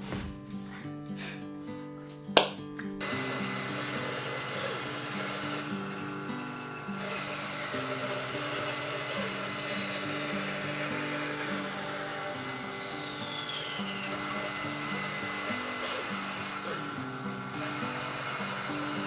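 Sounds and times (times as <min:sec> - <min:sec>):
gouge cutting spinning wood: 0:03.0 - 0:19.0.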